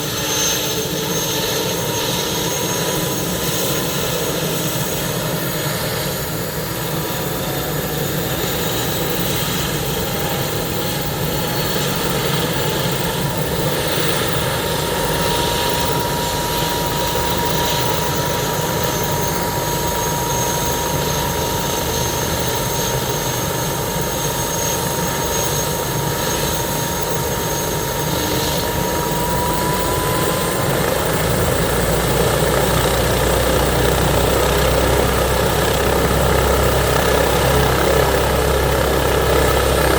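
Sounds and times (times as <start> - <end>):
helicopter rotor noise: 0.0 - 39.9
turbine whine: 0.0 - 39.9.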